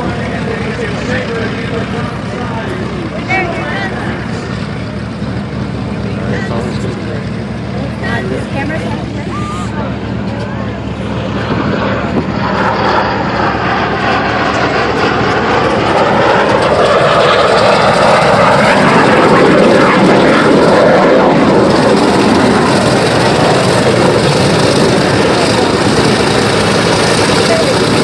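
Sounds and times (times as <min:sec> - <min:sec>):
airplane flying past: 0:00.0 - 0:28.0.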